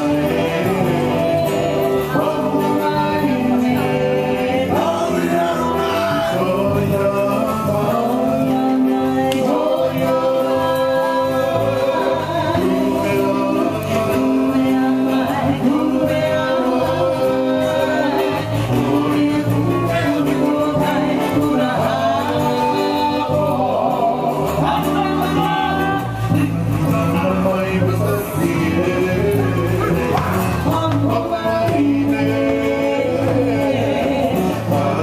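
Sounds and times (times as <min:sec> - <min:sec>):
people singing: 0:00.0 - 0:35.0.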